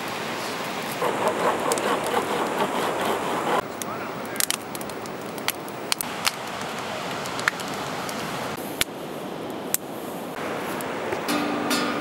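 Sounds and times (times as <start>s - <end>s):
campfire crackling and popping: 0.0s - 11.3s.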